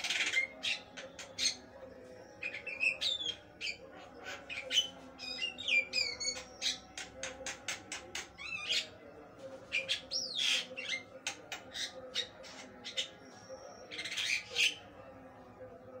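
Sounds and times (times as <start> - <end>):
myna bird singing: 0.0 - 16.0.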